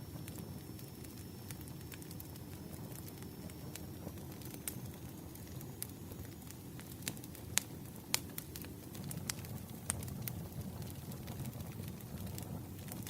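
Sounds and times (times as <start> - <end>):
burning logs rumble: 0.0 - 13.0
fire sharp pops: 0.2 - 13.0.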